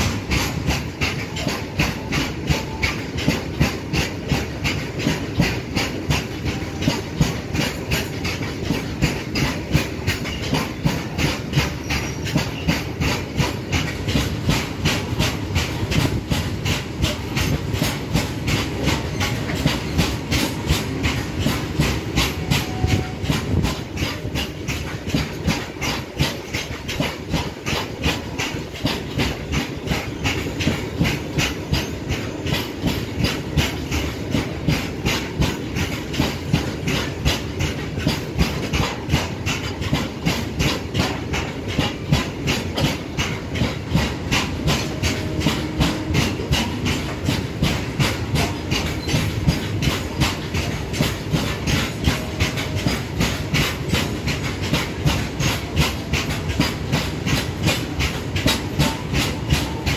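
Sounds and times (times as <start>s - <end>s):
freight train rumble and hiss: 0.0s - 59.9s
train wheels clattering on rails: 0.0s - 59.9s.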